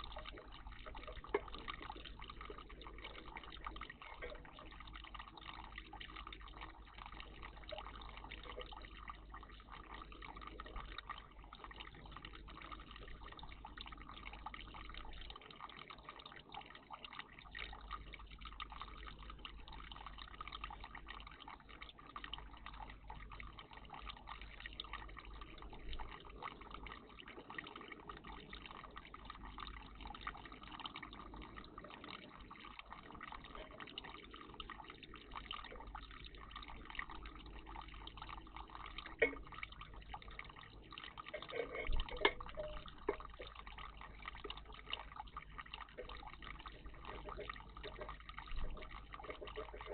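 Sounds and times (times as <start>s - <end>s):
water trickling in a bird bath: 0.0s - 49.9s.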